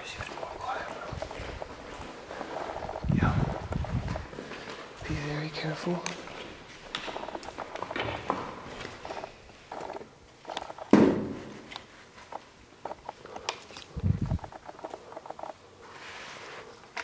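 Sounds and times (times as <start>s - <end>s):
footsteps: 0.0s - 16.8s.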